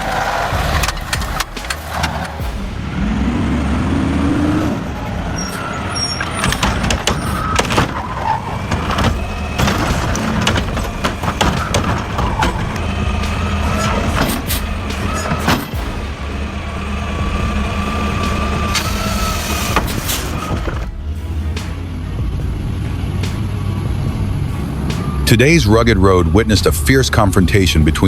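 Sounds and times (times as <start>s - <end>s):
metal knocks and clanks: 0.0s - 26.0s
truck engine revving: 0.0s - 28.0s.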